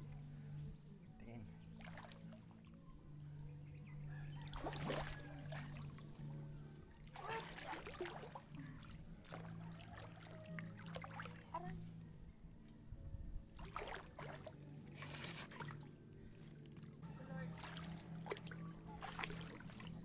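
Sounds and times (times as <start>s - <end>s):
background music with low held notes: 0.0s - 20.0s
water sloshing: 1.6s - 3.4s, 4.2s - 12.8s, 13.5s - 20.0s.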